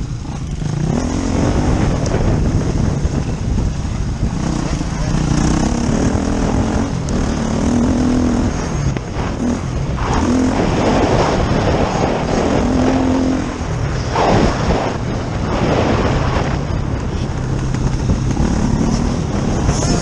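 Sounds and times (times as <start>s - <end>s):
dirt bike engine revving: 0.0s - 3.2s, 4.2s - 20.0s.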